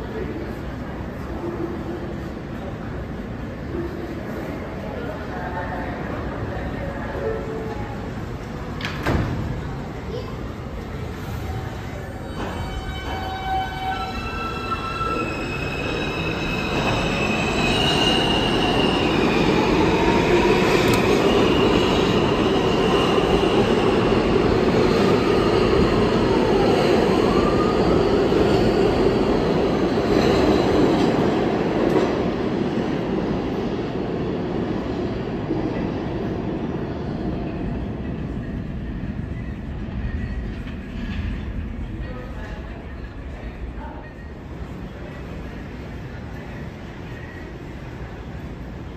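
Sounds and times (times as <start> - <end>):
subway train wheels rumbling: 0.0 - 48.9.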